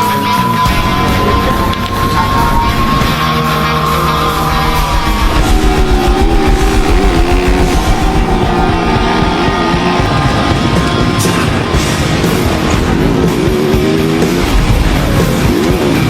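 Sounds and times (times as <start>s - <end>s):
distorted electric guitar lead: 0.0s - 16.0s
hard rock music: 0.0s - 16.0s.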